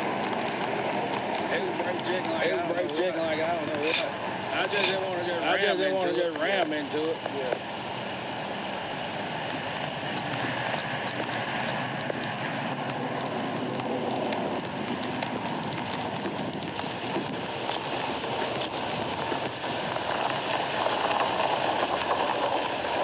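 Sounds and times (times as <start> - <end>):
steady hissing noise: 0.0 - 23.0.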